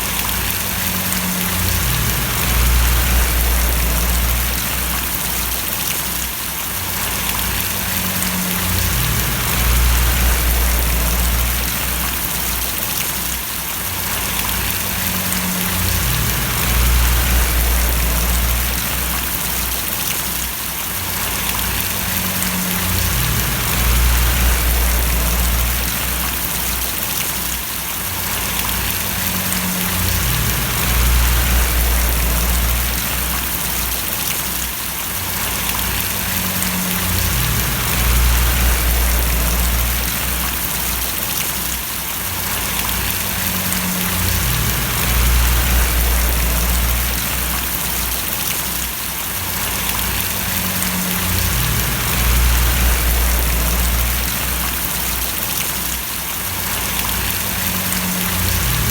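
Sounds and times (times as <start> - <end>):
low rumble: 0.0 - 5.8, 7.1 - 12.7, 14.3 - 20.1, 21.3 - 27.0, 28.5 - 34.3, 35.4 - 41.2, 42.7 - 48.5, 49.7 - 55.4, 57.0 - 58.9
steady rain splashing: 0.0 - 58.9.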